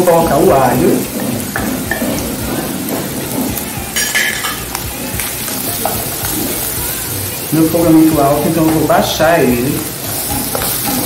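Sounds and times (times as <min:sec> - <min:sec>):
garlic sizzling in hot oil: 0:00.0 - 0:11.0
spatula scraping pan: 0:00.0 - 0:11.0.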